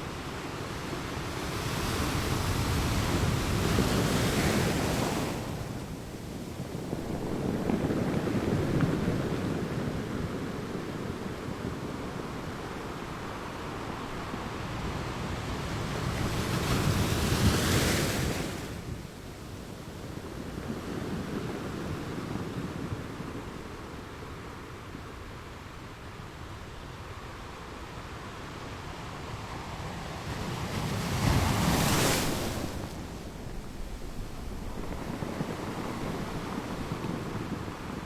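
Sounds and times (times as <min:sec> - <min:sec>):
ocean waves washing on shore: 0:00.0 - 0:38.0.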